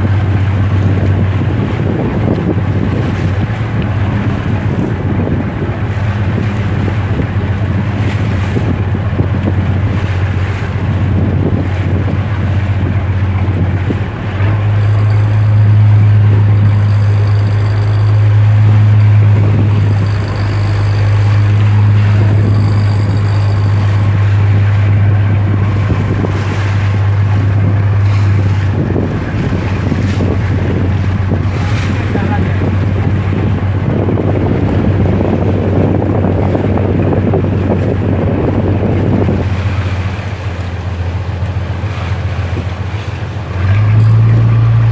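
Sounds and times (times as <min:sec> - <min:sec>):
boat engine droning: 0:00.0 - 0:44.9
rushing water: 0:00.0 - 0:44.9
wind buffeting microphone: 0:00.0 - 0:44.9.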